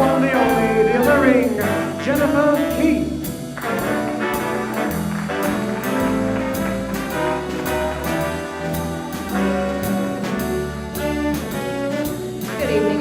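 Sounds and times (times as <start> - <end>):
swing band playing: 0.0 - 13.0.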